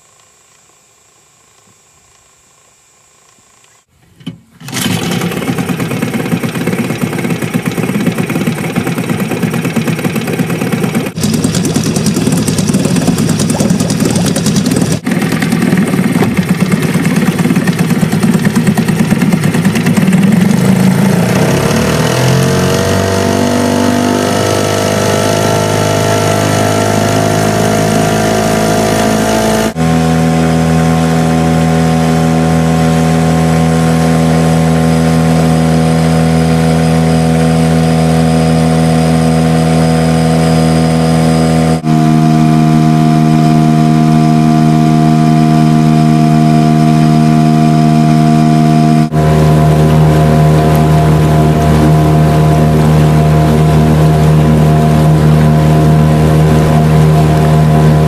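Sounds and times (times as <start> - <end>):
motorboat engine running: 4.2 - 58.0.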